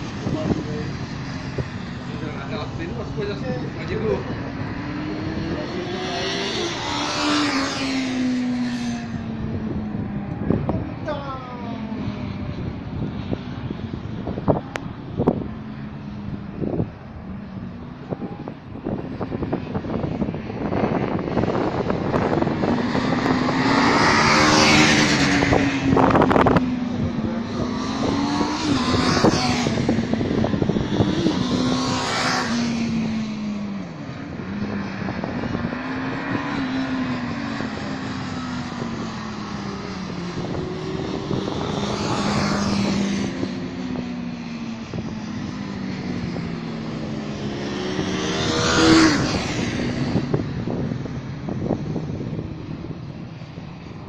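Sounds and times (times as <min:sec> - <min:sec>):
racing motorcycles revving: 0:00.0 - 0:54.0.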